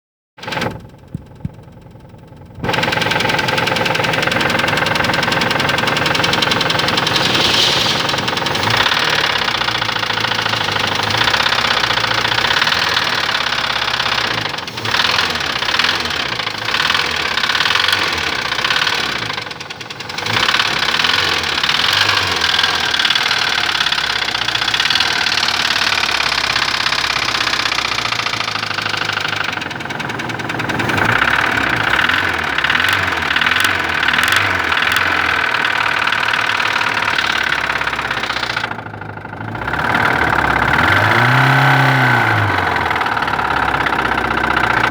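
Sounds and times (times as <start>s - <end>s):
car engine ticking knock: 0.5s - 44.9s.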